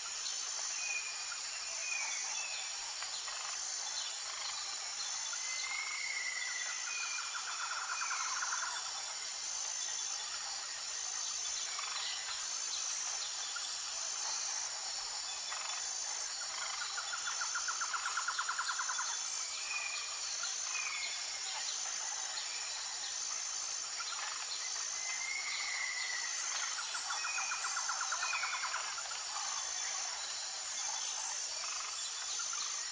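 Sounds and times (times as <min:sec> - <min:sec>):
pulsing insect chorus: 0:00.0 - 0:32.9
rapid insect trill: 0:00.0 - 0:32.9.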